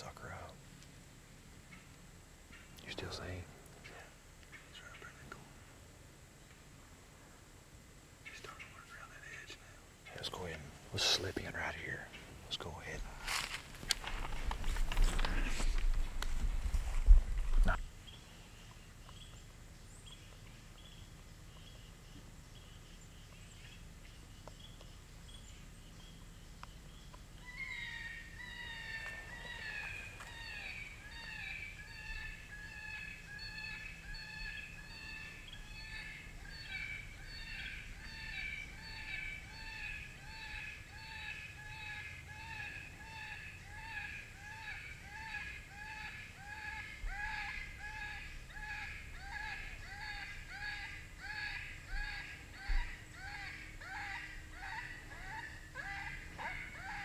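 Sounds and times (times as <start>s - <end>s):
faint outdoor background: 0.0s - 57.0s.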